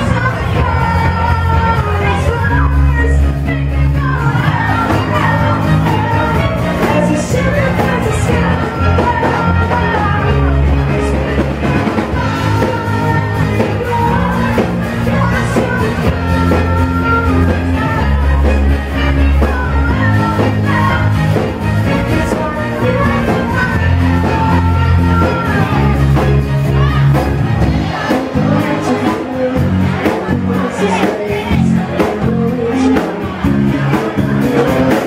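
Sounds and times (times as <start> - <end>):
live pop-rock band: 0.0 - 35.0
woman singing: 0.0 - 35.0.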